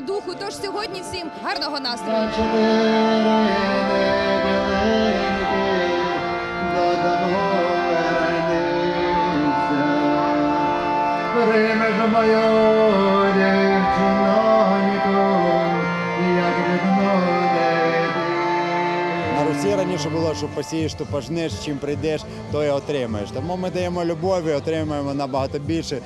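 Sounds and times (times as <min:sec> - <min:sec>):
harmonium chords: 0:00.0 - 0:26.0
man singing: 0:02.0 - 0:26.0.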